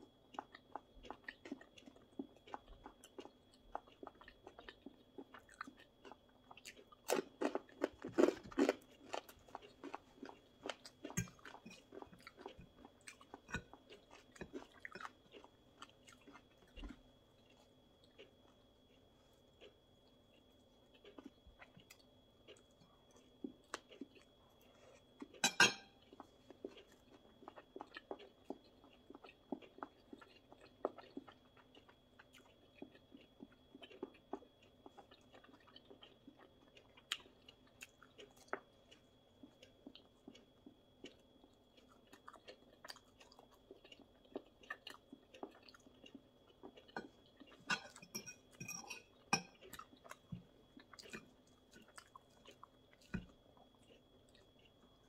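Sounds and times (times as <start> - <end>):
person chewing crunchy food: 0.0 - 55.0.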